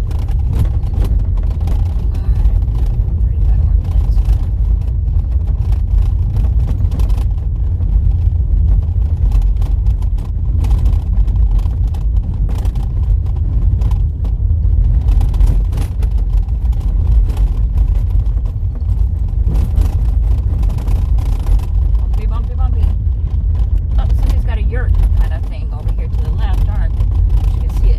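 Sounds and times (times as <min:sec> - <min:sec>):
car knocks and rattles: 0:00.0 - 0:27.9
car tyres rumbling on dirt road: 0:00.0 - 0:27.9.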